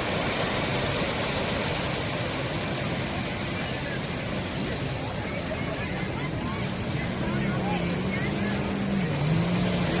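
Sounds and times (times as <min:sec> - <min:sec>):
sea surf washing: 0:00.0 - 0:10.0.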